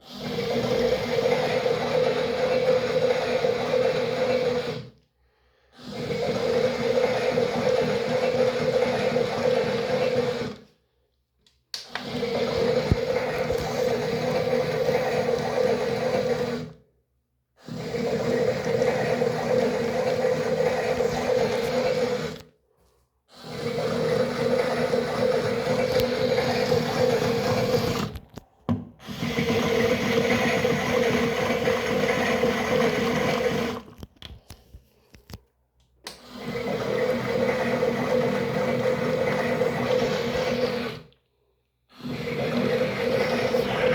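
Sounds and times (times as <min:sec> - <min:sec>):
toy washing machine motor churning: 0:00.0 - 0:05.0, 0:05.8 - 0:10.6, 0:11.9 - 0:16.8, 0:17.6 - 0:22.4, 0:23.4 - 0:28.4, 0:29.0 - 0:34.0, 0:36.2 - 0:41.2, 0:42.0 - 0:43.9.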